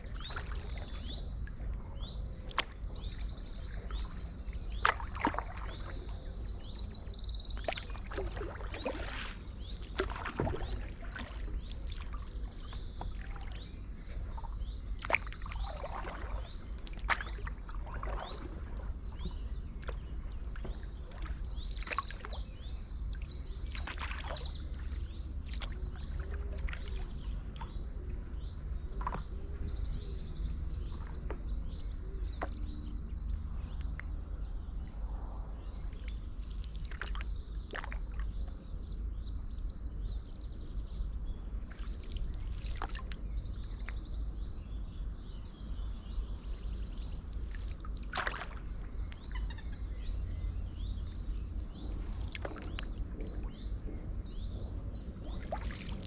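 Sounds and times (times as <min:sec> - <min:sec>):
paddle splashing in water: 0:00.0 - 0:32.7, 0:36.0 - 0:38.5, 0:41.6 - 0:44.0, 0:46.4 - 0:50.1, 0:50.7 - 0:54.4, 0:55.2 - 0:56.0
songbirds chirping and trilling: 0:00.0 - 0:56.0.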